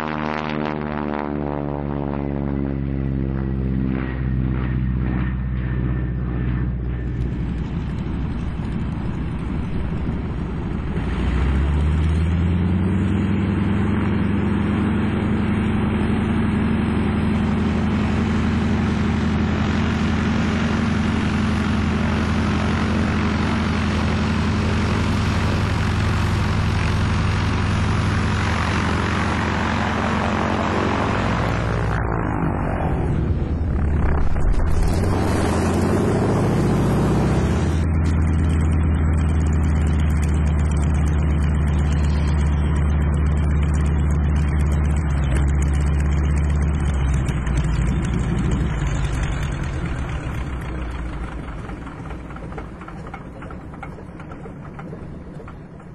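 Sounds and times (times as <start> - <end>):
propeller aircraft engine drone: 0.0 - 55.9.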